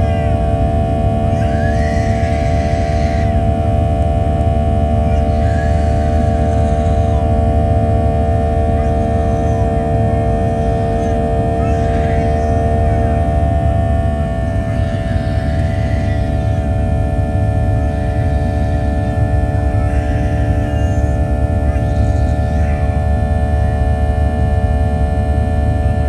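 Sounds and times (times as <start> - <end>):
jet engine rumble in cabin: 0.0 - 26.0
steady droning tones: 0.0 - 26.0.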